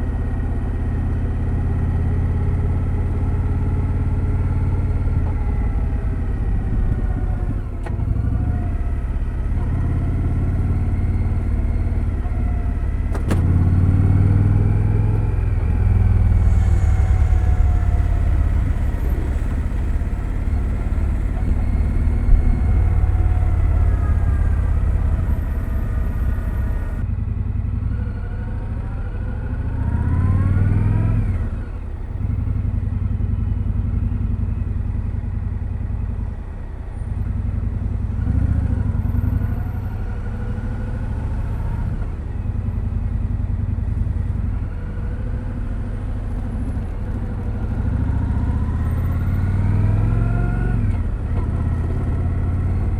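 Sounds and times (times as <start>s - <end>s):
motorcycle engine while riding: 0.0s - 52.9s.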